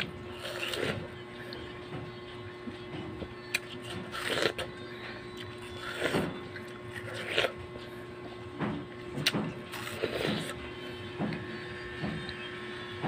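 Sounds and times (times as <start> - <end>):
biting and chewing watermelon: 0.0 - 12.5
steady hum: 0.0 - 13.0.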